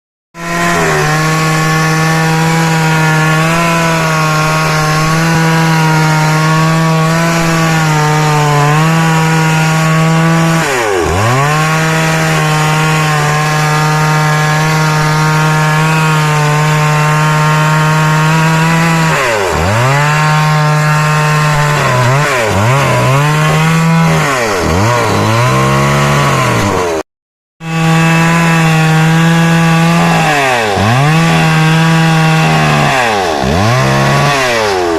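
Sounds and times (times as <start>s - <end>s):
chainsaw cutting wood: 0.4s - 27.0s, 27.6s - 34.9s.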